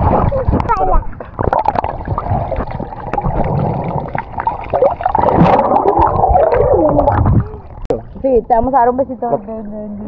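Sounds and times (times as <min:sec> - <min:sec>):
pool water splashing: 0:00.0 - 0:09.0.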